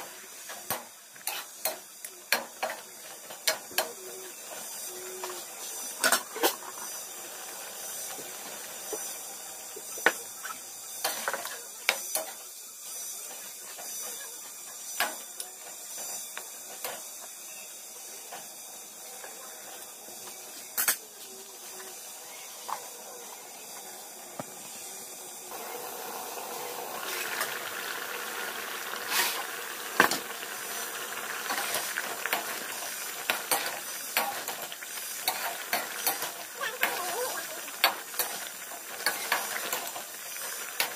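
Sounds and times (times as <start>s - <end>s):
curry sizzling in a pan: 0.0s - 40.9s.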